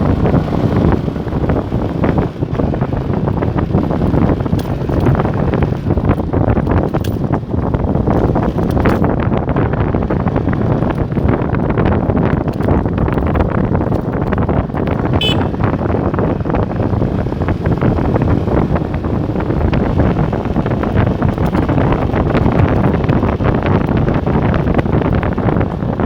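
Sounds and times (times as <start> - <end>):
motorcycle engine: 0.0 - 26.0
wind buffeting microphone: 0.0 - 26.0.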